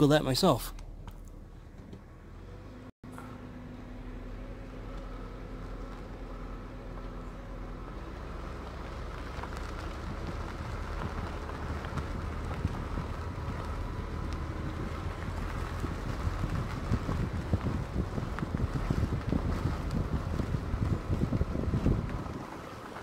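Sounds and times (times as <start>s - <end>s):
tyres rumbling on gravel road: 0.0s - 23.0s
vehicle engine idling: 0.0s - 23.0s.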